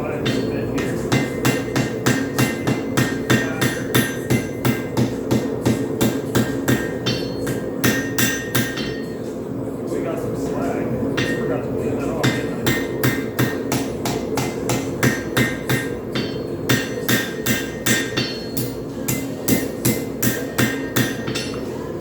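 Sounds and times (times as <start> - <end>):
hammer striking steel on anvil: 0.2 - 9.2, 11.2 - 11.5, 12.2 - 21.7.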